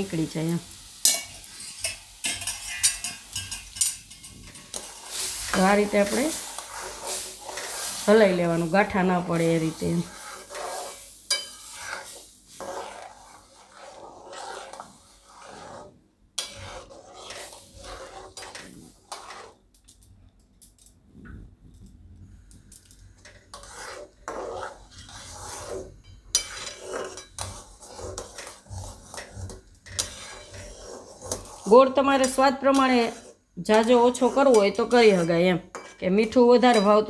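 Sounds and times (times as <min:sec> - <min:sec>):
metal spatula scraping pan: 0:00.0 - 0:19.7, 0:22.9 - 0:37.0.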